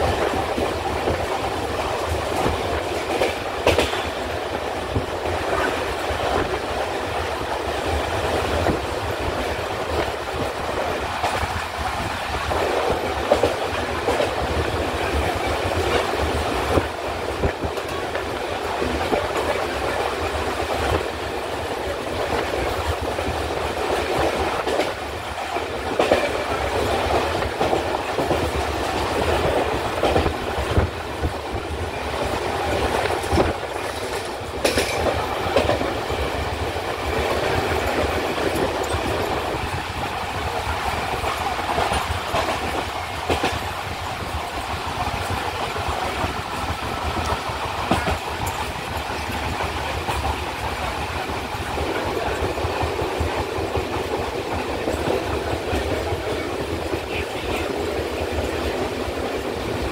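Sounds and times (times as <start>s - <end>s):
track clacks: 0.0s - 59.9s
train wheels rumbling on rails: 0.0s - 59.9s.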